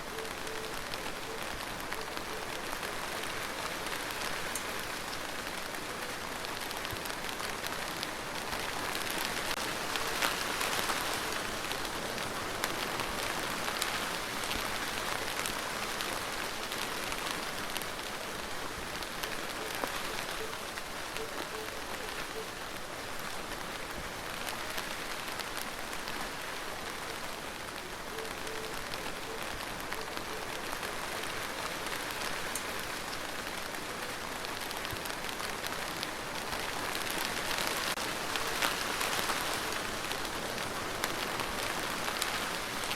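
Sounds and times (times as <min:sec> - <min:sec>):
rain falling on a surface: 0:00.0 - 0:42.9.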